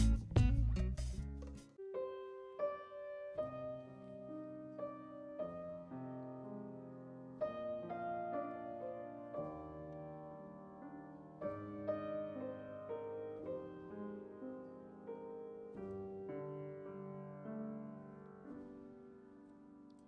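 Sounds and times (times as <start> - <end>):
soft slow piano: 0.0 - 20.0.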